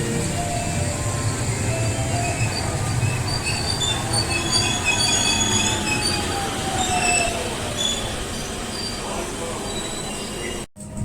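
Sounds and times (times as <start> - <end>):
train rumble on rails: 0.0 - 11.0
train wheel squeal: 0.5 - 10.7.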